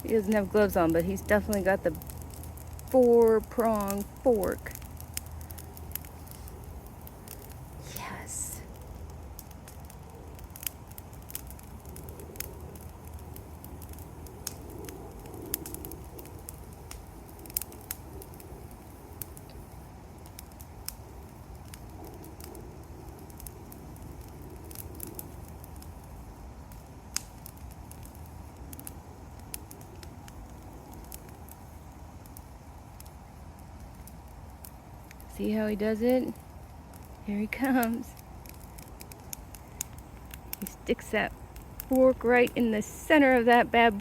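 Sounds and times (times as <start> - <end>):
bonfire crackling and popping: 0.0 - 44.0.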